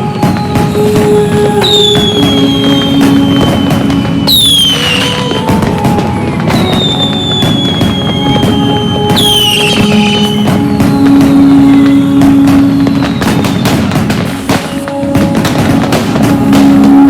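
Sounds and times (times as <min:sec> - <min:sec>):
fireworks crackling and popping: 0:00.0 - 0:17.0
whistling fireworks falling in pitch: 0:00.0 - 0:17.0.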